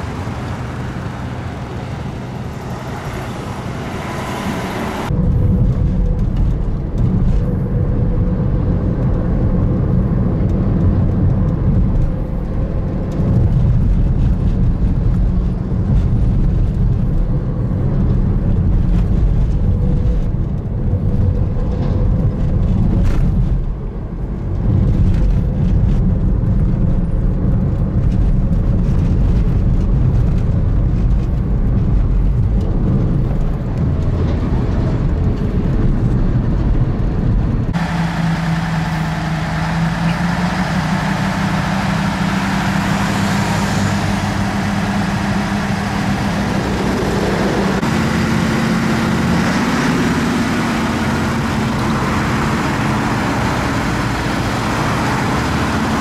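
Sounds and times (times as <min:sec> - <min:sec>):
car cabin road rumble: 0:00.0 - 0:56.0
roadside traffic: 0:00.0 - 0:56.0.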